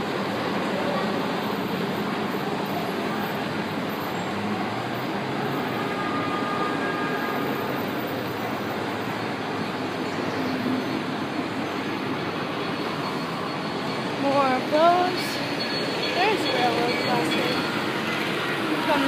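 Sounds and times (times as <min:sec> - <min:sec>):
model trains running: 0:00.0 - 0:19.0.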